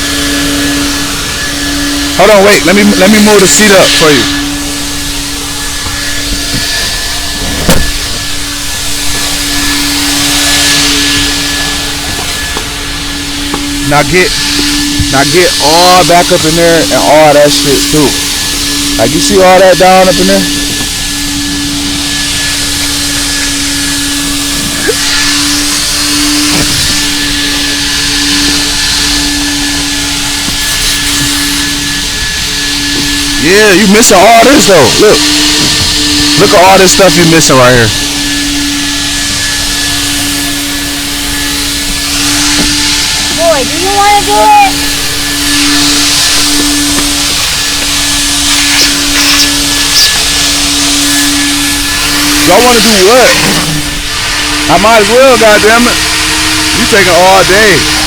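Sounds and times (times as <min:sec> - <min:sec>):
vacuum humming and hissing: 0:00.0 - 0:58.0.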